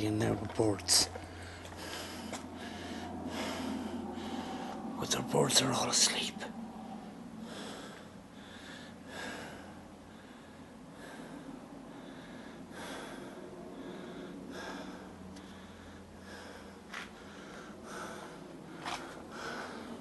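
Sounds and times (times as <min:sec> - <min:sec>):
man breathing: 0:01.1 - 0:05.0, 0:07.0 - 0:20.0.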